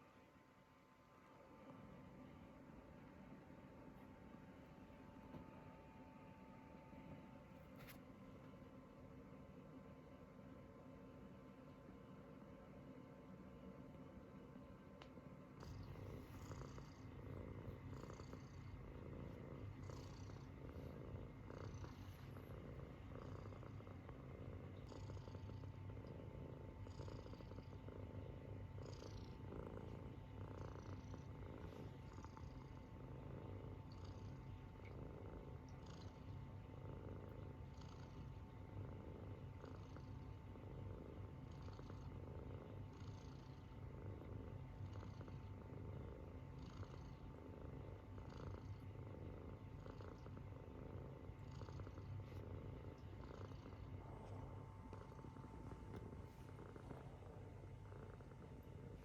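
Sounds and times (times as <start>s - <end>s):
kitten snoring quietly: 0.0s - 59.0s.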